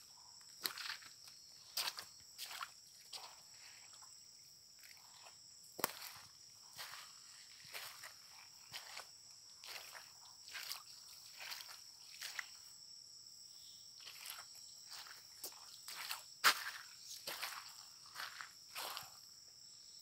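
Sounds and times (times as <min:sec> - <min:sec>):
high-pitched insect chorus: 0:00.0 - 0:20.0
footsteps on muddy trail: 0:00.5 - 0:04.1, 0:04.7 - 0:12.7, 0:14.0 - 0:19.3.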